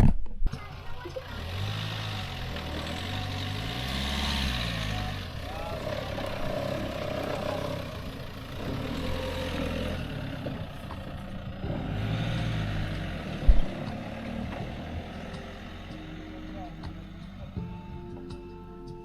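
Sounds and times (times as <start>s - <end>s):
car engine pulling away: 0.5s - 19.0s.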